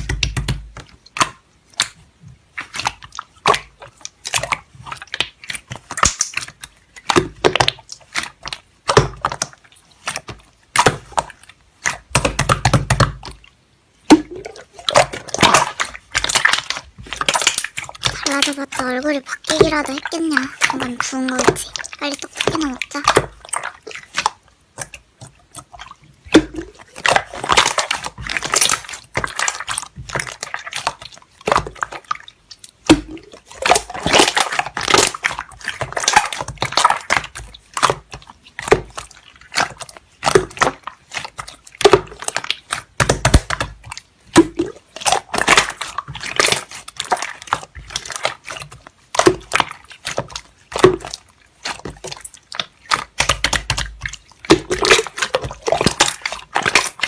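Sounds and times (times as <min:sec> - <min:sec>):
slime squished by hand: 0:00.0 - 0:57.0.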